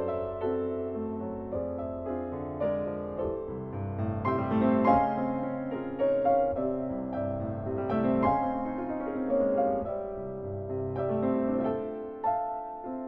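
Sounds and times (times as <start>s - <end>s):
solo classical piano: 0.0s - 13.0s.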